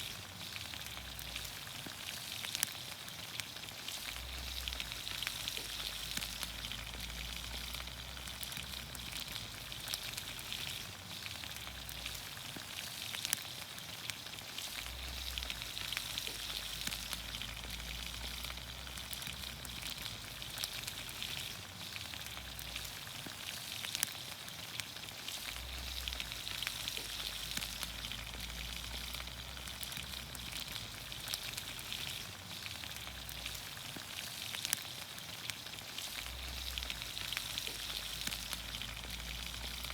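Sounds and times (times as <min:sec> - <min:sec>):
small crackles: 0:00.0 - 0:39.9
vegetables sizzling in oil: 0:00.0 - 0:39.9.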